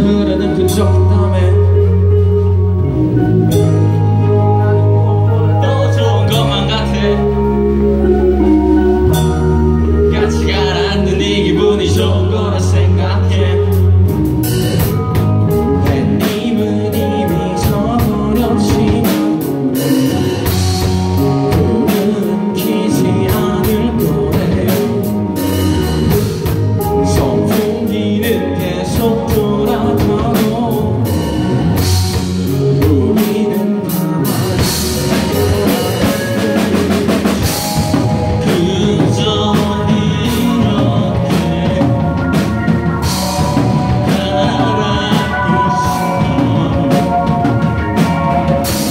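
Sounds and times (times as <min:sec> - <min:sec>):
drum kit: 0:00.0 - 0:48.9
electric bass: 0:00.0 - 0:48.9
electric guitars: 0:00.0 - 0:48.9
person singing: 0:00.0 - 0:48.9.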